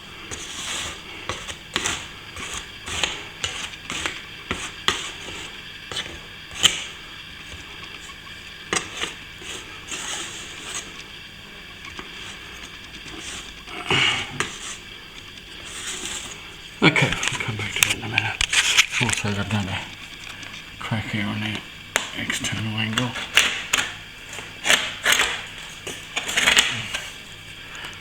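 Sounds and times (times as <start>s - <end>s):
plastering knife scraping plaster: 0.3s - 11.1s, 11.8s - 19.8s, 22.4s - 27.1s.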